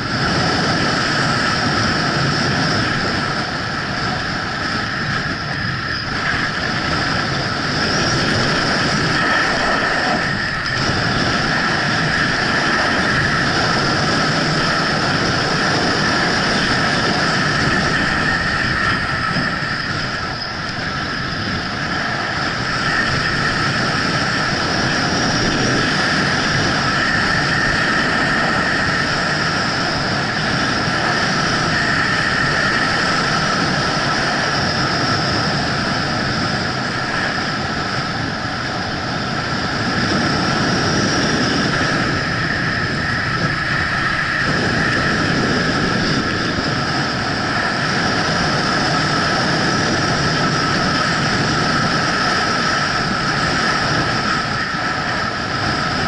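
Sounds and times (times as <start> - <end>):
wind noise on camera: 0.0 - 56.0.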